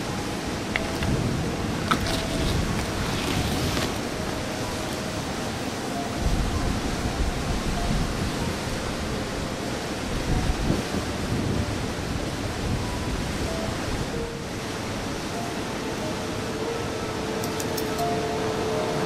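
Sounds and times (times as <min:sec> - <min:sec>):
river water rushing: 0:00.0 - 0:19.0
wind buffeting microphone: 0:00.0 - 0:19.0.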